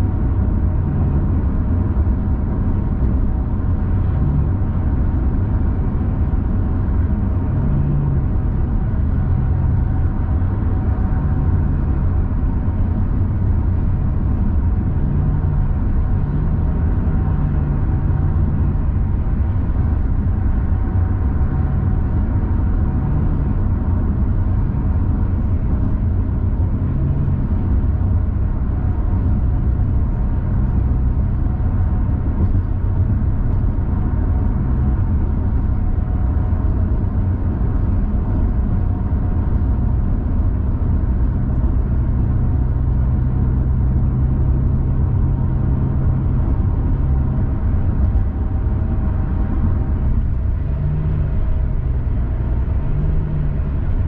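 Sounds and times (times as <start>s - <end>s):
car road and engine noise: 0.0s - 54.0s
low hum: 0.0s - 54.0s.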